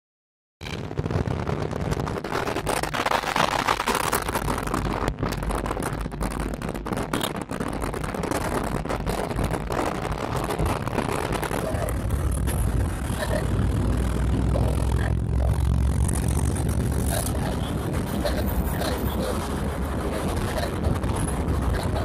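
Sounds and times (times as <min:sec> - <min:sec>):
rushing wind: 0:00.6 - 0:22.0
tyres and engine rumble: 0:00.6 - 0:22.0.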